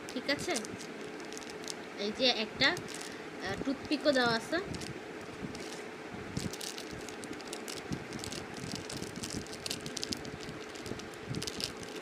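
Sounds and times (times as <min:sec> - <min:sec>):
wrapper crinkling and rustling: 0:00.0 - 0:01.9, 0:02.6 - 0:12.0
faint steady hum: 0:00.0 - 0:12.0.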